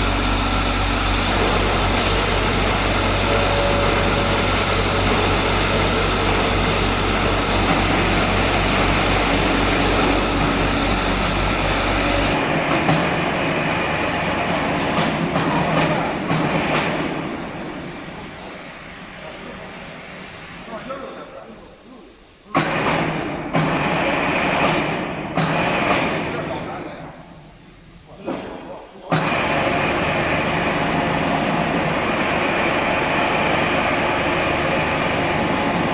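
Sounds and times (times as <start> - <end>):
hydraulic power unit humming: 0.0 - 35.9
loud mechanical noise: 0.0 - 35.9.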